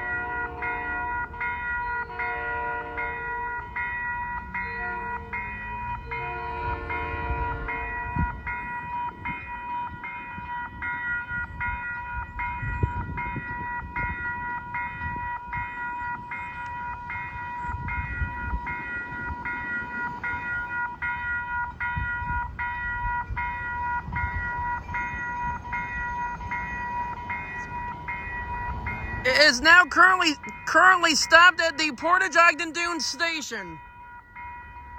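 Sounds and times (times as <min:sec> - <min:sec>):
electric train rumbling: 0:00.0 - 0:29.2
crossing warning bell ringing: 0:00.0 - 0:34.9.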